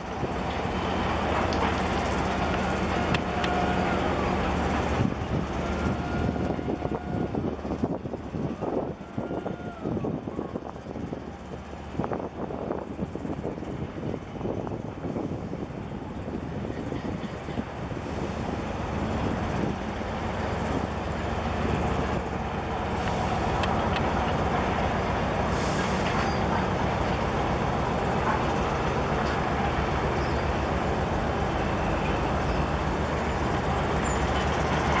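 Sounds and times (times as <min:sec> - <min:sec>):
ship engines rumbling: 0:00.0 - 0:35.0.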